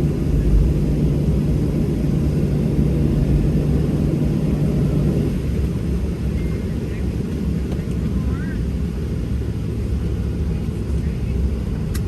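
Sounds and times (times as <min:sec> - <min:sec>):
aircraft cabin rumble: 0:00.0 - 0:12.0
constant cabin hum: 0:00.0 - 0:12.0.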